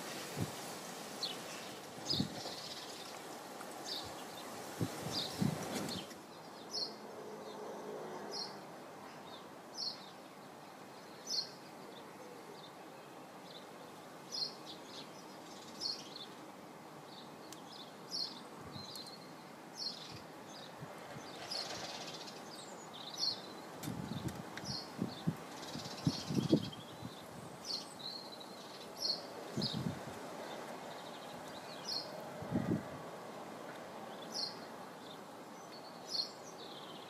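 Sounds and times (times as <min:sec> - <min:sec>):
faint outdoor background noise: 0:00.0 - 0:37.0.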